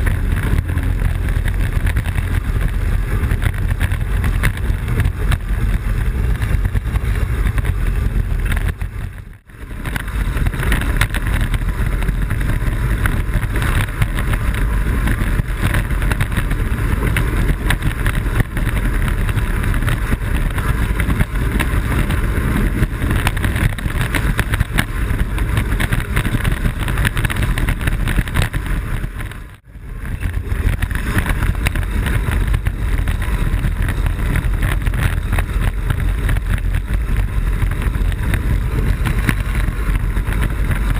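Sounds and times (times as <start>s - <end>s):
wheels rumbling on pavement: 0.0s - 40.9s
wind rushing over microphone: 0.0s - 40.9s.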